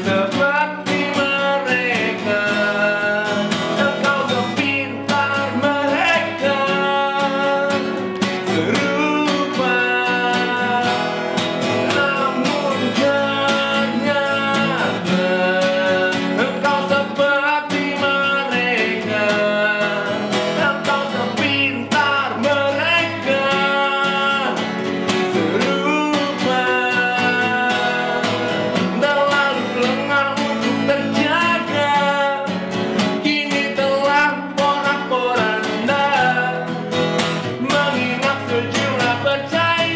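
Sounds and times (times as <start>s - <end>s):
man singing: 0.0s - 39.9s
strummed acoustic guitar: 0.0s - 39.9s.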